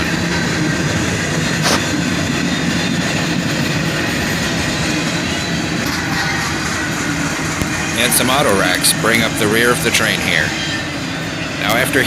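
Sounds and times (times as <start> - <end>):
train wheels rolling on rails: 0.0 - 12.0.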